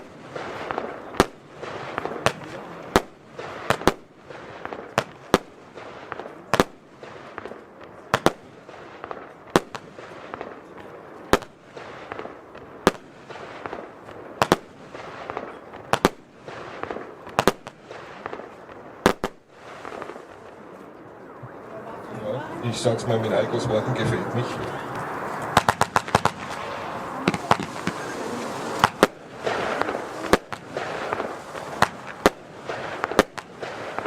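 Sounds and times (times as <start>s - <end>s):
firework bangs: 0.0s - 34.0s
firework crackling: 0.0s - 34.0s.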